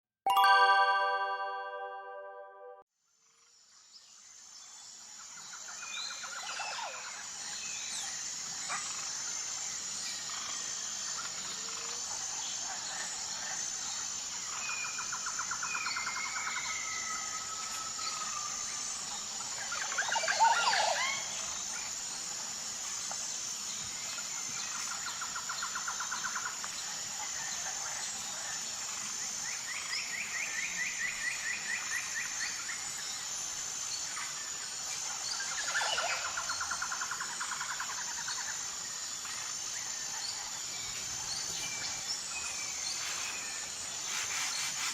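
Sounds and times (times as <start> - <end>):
high insect drone: 4.5 - 44.9.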